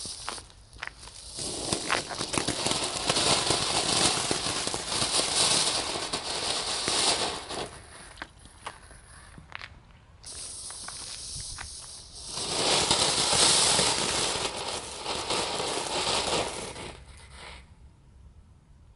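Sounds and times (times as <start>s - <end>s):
ground fountain hissing and crackling: 0.0s - 8.9s, 10.2s - 17.6s.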